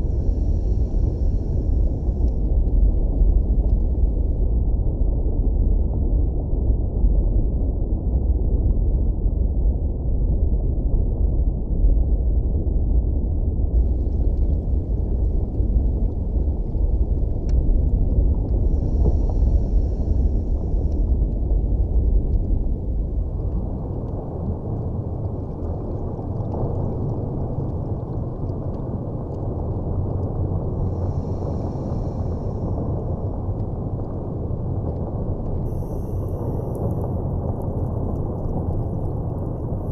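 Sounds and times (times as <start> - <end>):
low underwater rumble: 0.0 - 7.4, 13.7 - 39.9.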